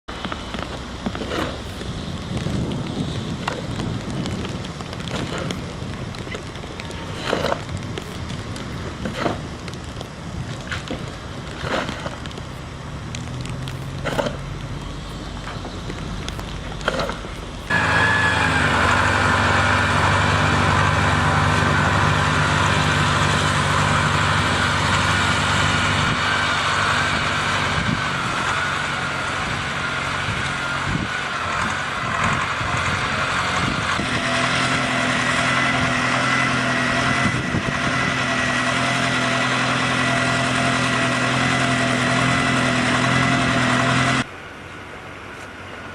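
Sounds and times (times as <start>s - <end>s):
engine running with whine: 0.0s - 45.9s.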